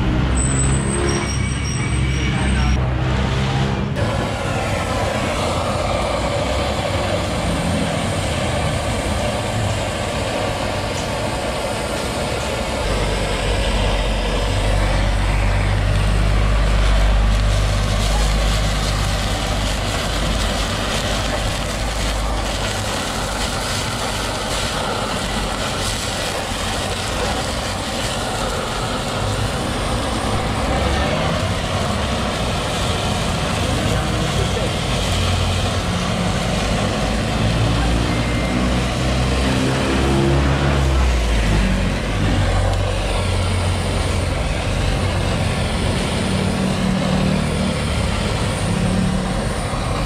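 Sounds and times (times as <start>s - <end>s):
vehicle engine rumble: 0.0s - 50.0s
blowtorch hissing: 3.9s - 50.0s.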